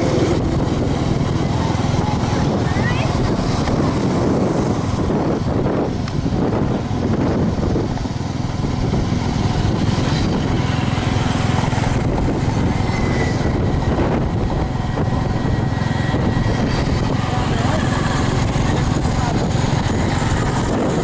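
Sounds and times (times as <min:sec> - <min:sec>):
engine and road rumble: 0:00.0 - 0:21.0
rushing air: 0:00.0 - 0:21.0.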